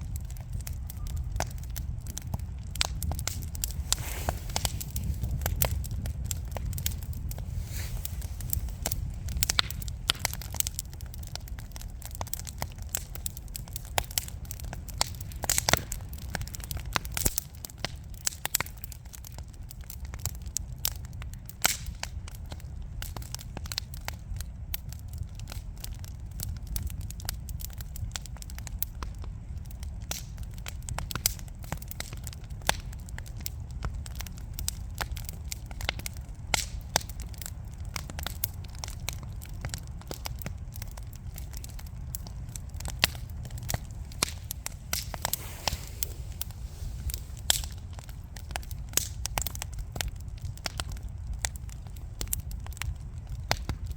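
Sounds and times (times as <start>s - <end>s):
crackles and pops of burning logs: 0.0s - 53.9s
low rumble of flames: 0.0s - 53.9s.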